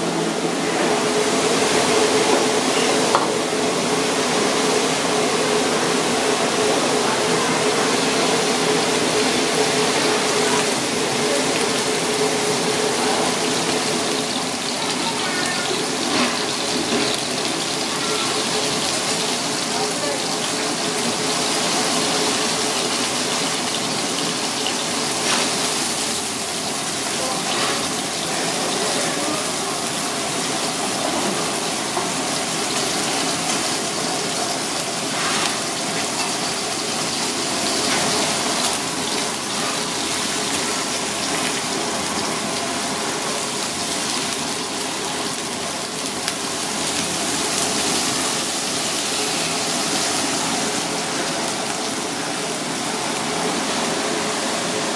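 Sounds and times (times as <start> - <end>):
fish frying in hot oil: 0.1 - 54.9.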